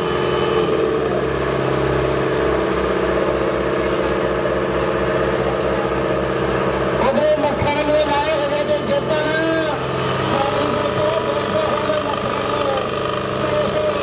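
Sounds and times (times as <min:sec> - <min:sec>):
tractor diesel engines under load: 0:00.0 - 0:14.0.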